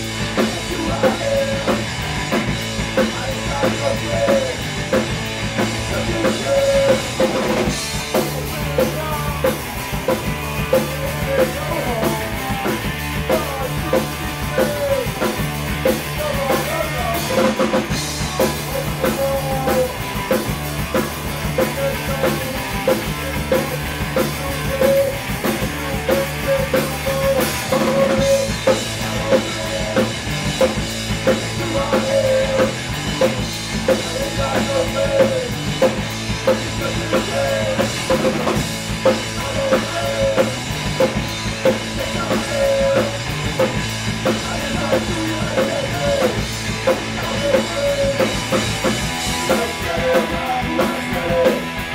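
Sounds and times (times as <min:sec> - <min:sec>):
drum kit beat: 0:00.0 - 0:51.9
rock band playing live: 0:00.0 - 0:51.9.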